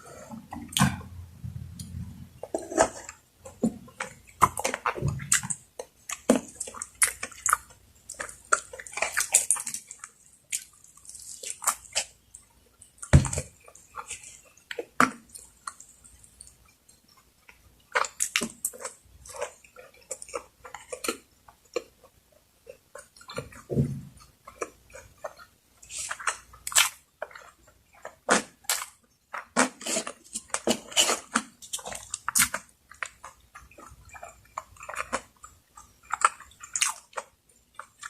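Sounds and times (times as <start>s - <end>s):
wet chewing and lip smacking: 1.8s - 38.0s.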